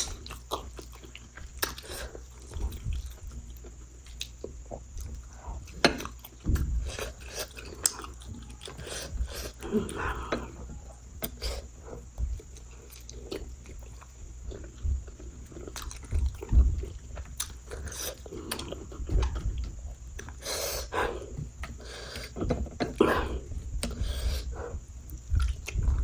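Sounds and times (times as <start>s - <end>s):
chewing and biting food: 0.0s - 20.5s, 23.8s - 26.0s.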